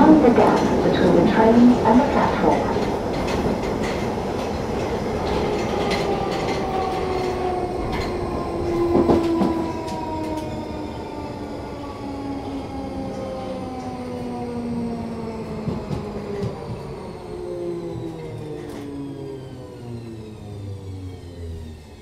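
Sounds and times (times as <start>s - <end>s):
train whine slowing: 0.0s - 22.0s.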